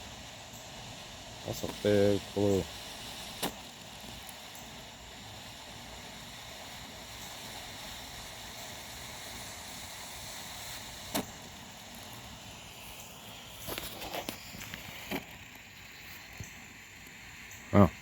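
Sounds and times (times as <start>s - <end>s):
smoke grenade hissing: 0.0s - 18.0s.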